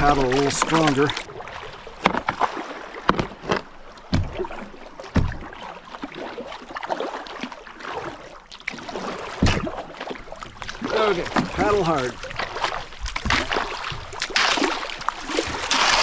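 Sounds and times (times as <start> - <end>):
paddle strokes splashing: 0.0 - 16.0
water rushing: 0.0 - 16.0.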